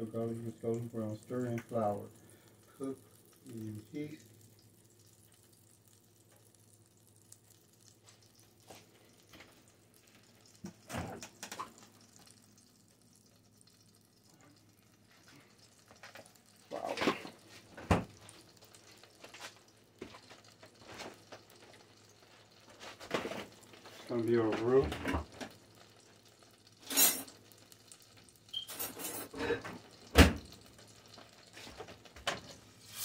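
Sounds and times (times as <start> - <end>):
butter crackling and popping: 0.0 - 33.0.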